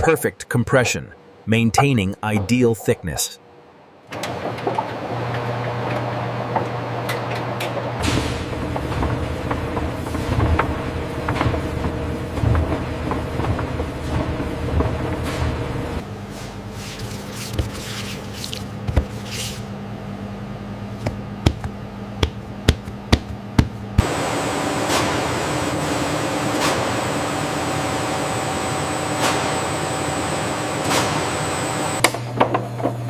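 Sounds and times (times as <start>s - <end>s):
factory machinery humming: 0.0s - 16.7s, 19.8s - 33.0s
machine hum with high whine: 0.0s - 33.0s.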